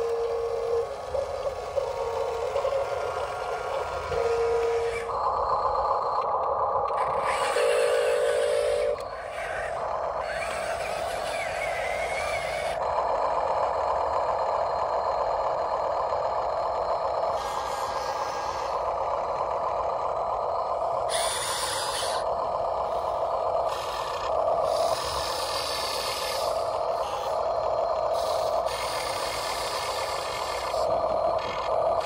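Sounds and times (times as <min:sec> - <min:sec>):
electric motors whining: 0:00.0 - 0:32.0.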